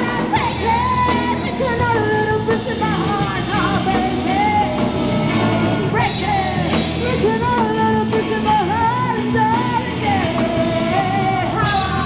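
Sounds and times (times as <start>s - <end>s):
drums: 0.0s - 12.0s
electric guitar: 0.0s - 12.0s
women singing: 0.0s - 12.0s.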